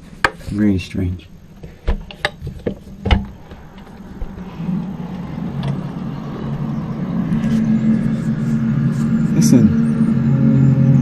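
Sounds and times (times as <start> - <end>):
low droning hum from sky: 0.0 - 11.0.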